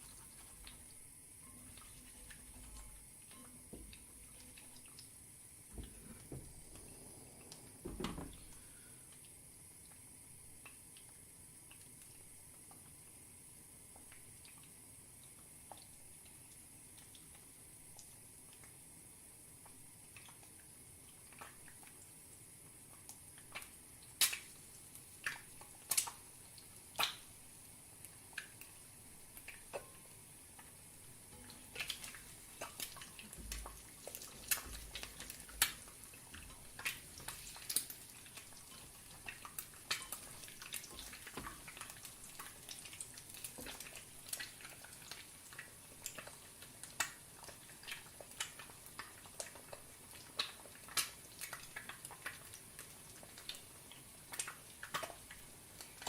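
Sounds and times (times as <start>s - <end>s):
eggs sizzling in a pan: 0.0s - 56.0s.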